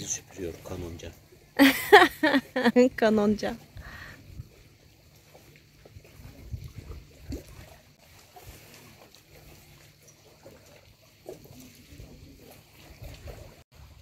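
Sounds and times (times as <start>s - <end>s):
sea water lapping and splashing: 0.0s - 14.0s.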